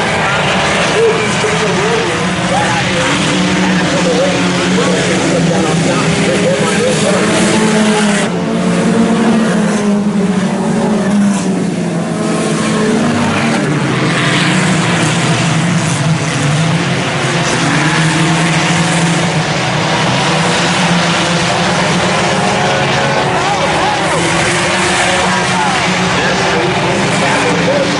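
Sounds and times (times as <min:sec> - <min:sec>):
race car engines droning: 0:00.0 - 0:27.9.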